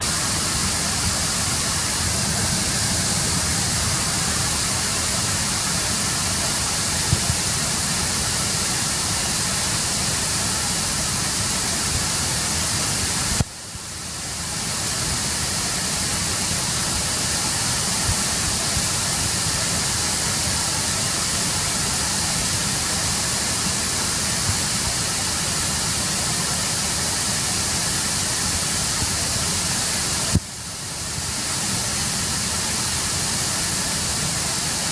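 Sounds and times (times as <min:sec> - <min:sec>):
waterfall and river rushing: 0:00.0 - 0:34.9.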